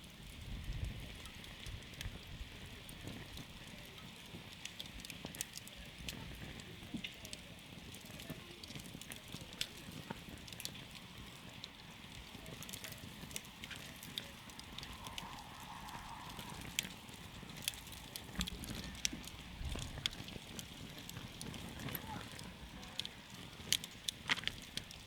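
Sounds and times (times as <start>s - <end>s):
soft steady hiss: 0.0s - 25.0s
wood campfire crackling: 0.0s - 25.0s.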